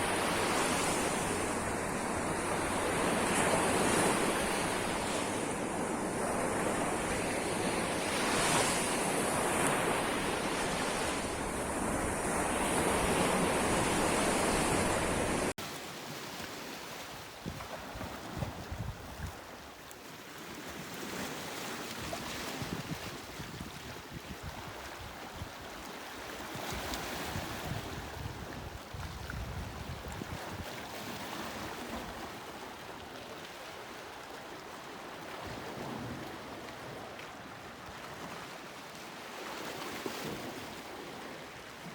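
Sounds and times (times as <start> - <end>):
ocean waves on shore: 0.0 - 41.9.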